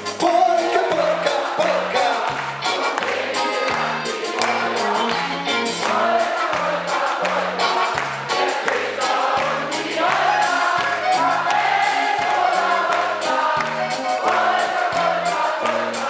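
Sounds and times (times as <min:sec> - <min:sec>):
bass: 0:00.0 - 0:16.0
drums with fast beat: 0:00.0 - 0:16.0
electric guitars: 0:00.0 - 0:16.0
singers singing in chorus: 0:00.2 - 0:16.0.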